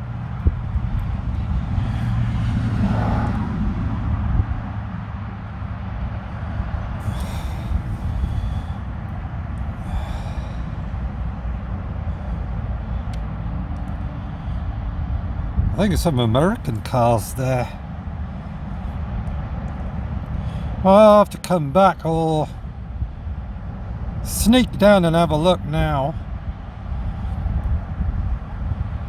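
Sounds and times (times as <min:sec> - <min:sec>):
strong wind buffeting microphone: 0:00.0 - 0:20.9, 0:22.0 - 0:29.0.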